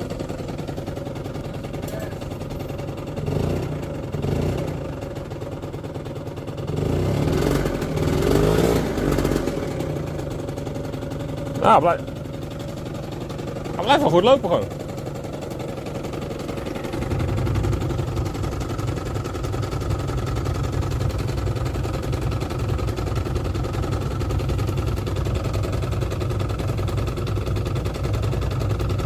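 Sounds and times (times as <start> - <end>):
scooter engine idling: 0.0 - 29.0.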